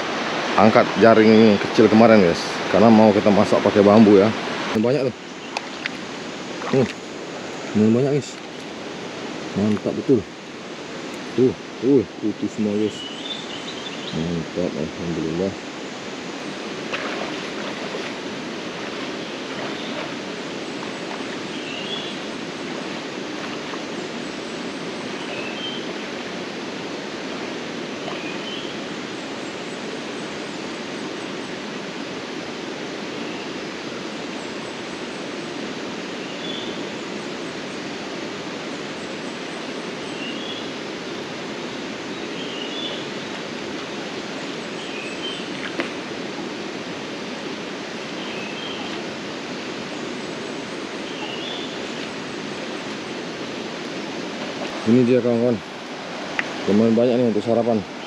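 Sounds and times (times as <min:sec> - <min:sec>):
water rushing over stones: 0:00.0 - 0:58.0.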